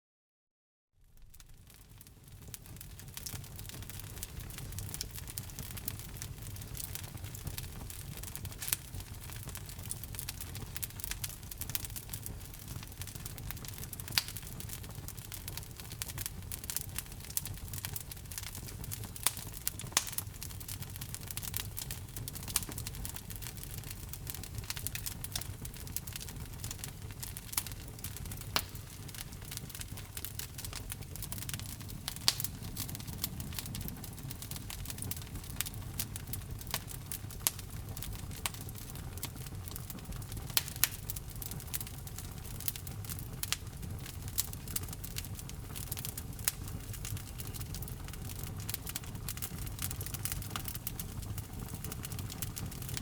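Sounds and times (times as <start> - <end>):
low rumble of flames: 1.0 - 53.0
wood fire crackling and popping: 1.1 - 53.0.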